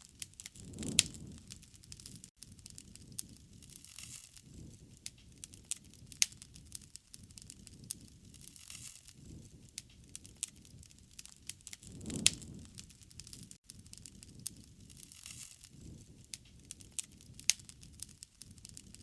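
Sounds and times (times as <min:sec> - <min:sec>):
low rush of flames: 0:00.0 - 0:19.0
wood fire crackling and popping: 0:00.0 - 0:19.0.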